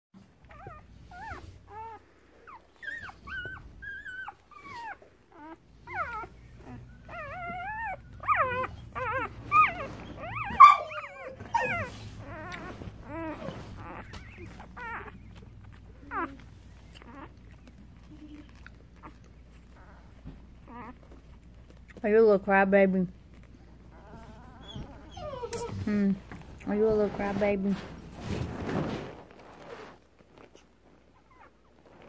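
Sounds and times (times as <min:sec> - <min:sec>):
puppies squeaking and whimpering: 0:00.2 - 0:28.4, 0:29.1 - 0:32.0.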